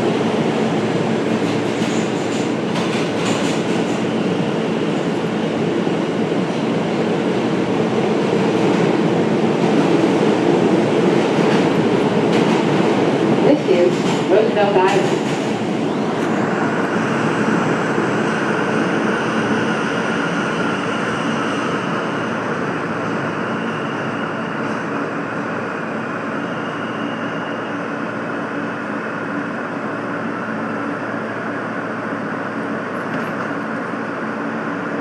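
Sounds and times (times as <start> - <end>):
subway train hum and whine: 0.0 - 35.0.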